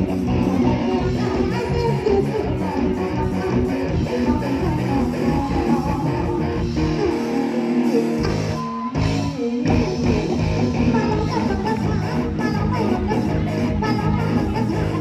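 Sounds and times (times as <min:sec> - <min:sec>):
live band with guitar: 0:00.0 - 0:15.0.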